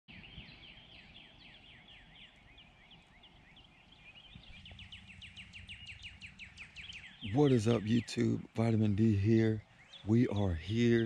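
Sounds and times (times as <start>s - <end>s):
birds singing whistled notes: 0.1s - 11.0s
low steady hum: 0.1s - 11.0s.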